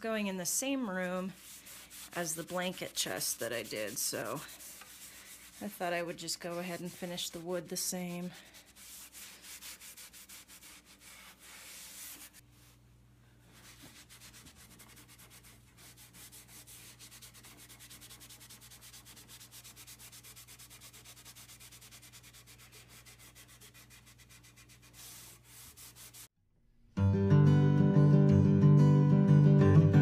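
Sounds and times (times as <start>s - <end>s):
cloth rag rubbing wood: 0.8s - 12.8s, 13.5s - 26.3s.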